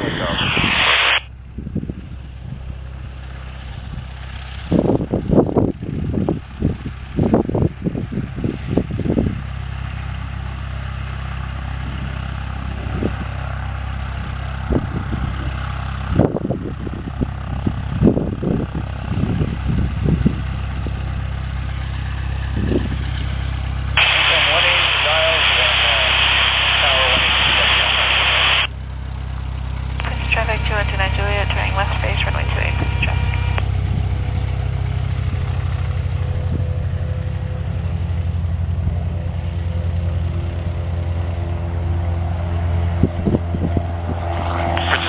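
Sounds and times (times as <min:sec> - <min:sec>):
propeller airplane engine drone: 0:00.0 - 0:45.0.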